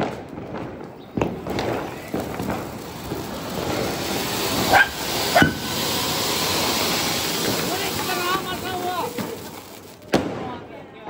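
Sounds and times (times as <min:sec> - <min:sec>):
fountain firecrackers hissing: 0:00.9 - 0:10.5.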